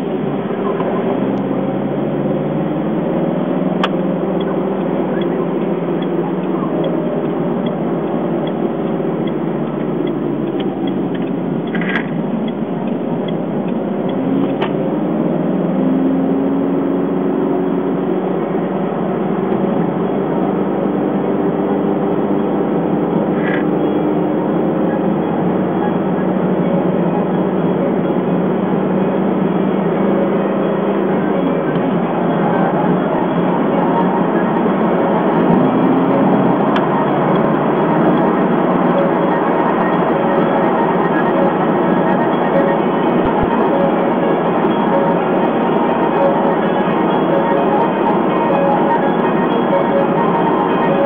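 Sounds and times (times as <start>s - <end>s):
car engine and tyre noise: 0.0s - 51.0s.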